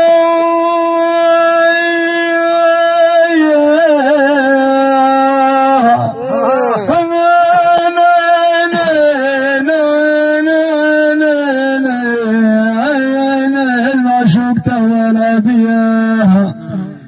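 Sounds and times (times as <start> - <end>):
man singing solo: 0.0 - 17.0.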